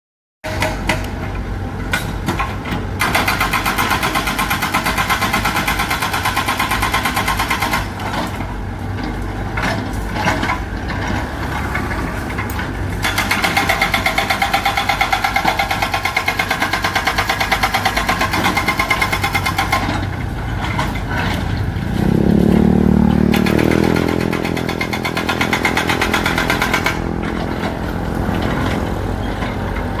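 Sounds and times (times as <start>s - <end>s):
excavator diesel engine clatter: 0.4s - 30.0s.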